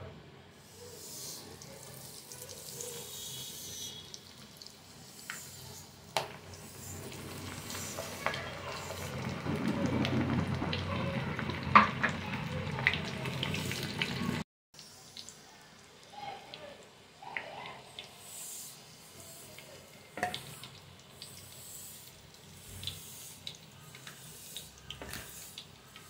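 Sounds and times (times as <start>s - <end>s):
oil sizzling and bubbling: 0.5s - 26.0s.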